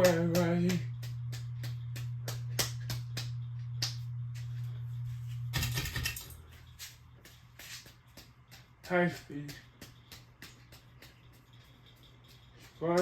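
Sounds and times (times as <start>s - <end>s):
ceiling fan clicking: 0.0s - 13.0s
ceiling fan motor hum: 0.0s - 13.0s.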